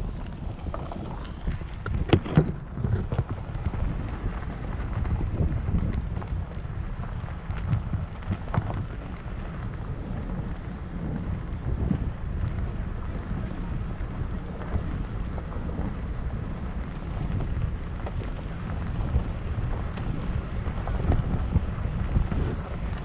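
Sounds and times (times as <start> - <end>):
tyres rumbling on gravel: 0.0 - 23.0
wind buffeting microphone: 0.0 - 23.0.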